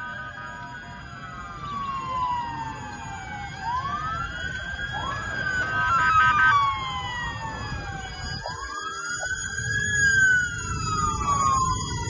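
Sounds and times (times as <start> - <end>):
emergency sirens wailing: 0.0 - 12.0.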